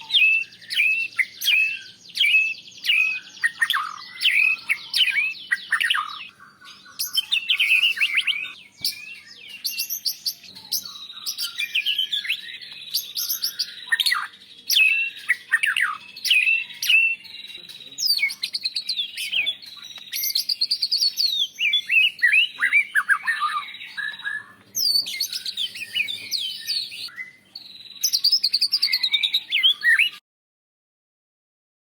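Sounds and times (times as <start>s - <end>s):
songbird whistles and trills: 0.0s - 30.2s.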